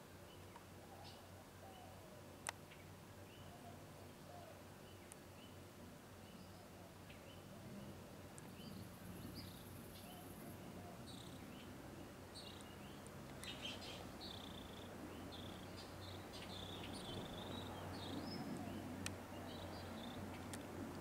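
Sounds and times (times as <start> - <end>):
faint low hum: 0.0 - 21.0
small birds chirping: 0.2 - 21.0.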